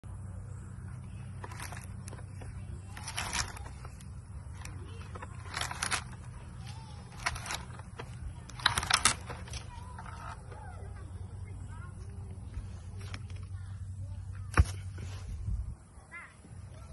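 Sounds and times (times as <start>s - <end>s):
steady low hum: 0.0s - 16.9s
rustling and scraping coconuts: 0.8s - 15.8s.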